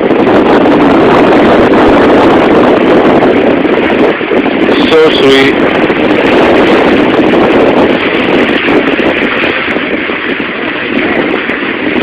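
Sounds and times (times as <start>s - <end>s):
boat motor running: 0.0s - 12.0s
water noise: 0.0s - 12.0s
wind on microphone: 0.0s - 12.0s.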